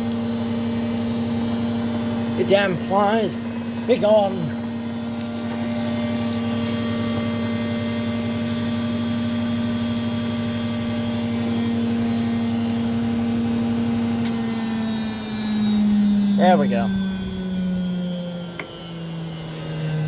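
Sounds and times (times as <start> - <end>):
washing machine spin whine: 0.0 - 20.0.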